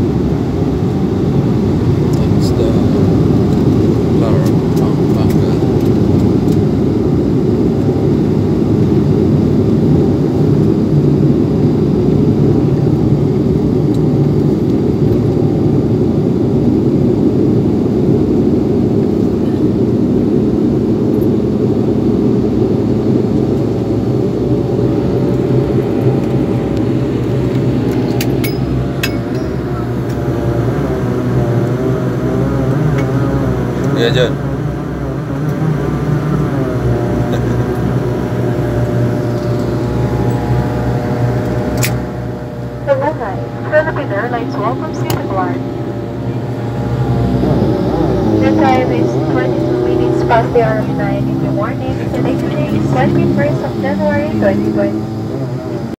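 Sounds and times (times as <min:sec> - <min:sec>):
droning propeller tone: 0:00.0 - 0:55.9
turboprop engines rumbling: 0:00.0 - 0:55.9.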